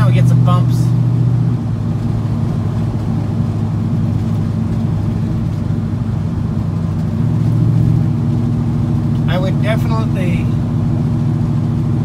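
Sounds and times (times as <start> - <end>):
pickup exhaust drone: 0.0 - 12.0.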